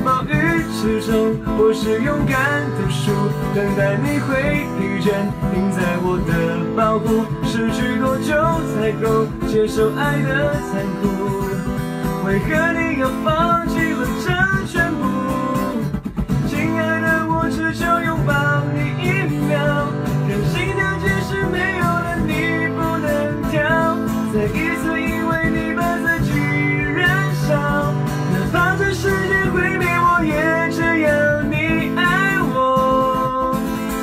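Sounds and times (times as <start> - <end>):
acoustic guitar strumming: 0.0 - 34.0
man singing: 0.0 - 34.0.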